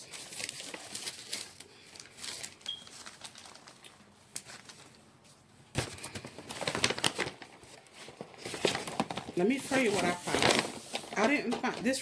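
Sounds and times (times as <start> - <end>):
items handled with clicks and rustling: 0.0 - 12.0.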